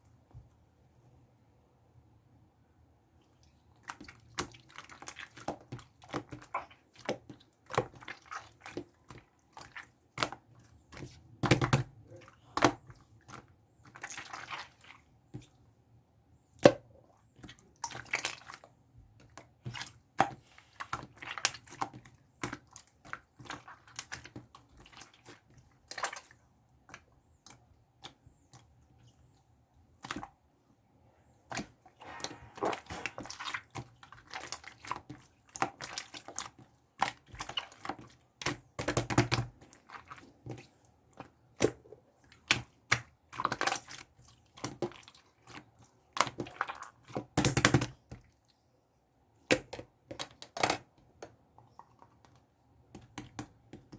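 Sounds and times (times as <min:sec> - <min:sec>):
slime squishing: 0:03.8 - 0:15.7, 0:16.6 - 0:30.4, 0:31.1 - 0:48.5.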